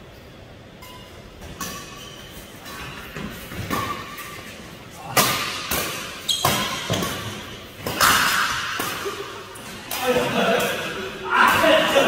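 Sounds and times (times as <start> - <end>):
rackets hitting shuttlecock: 0.8 - 12.0.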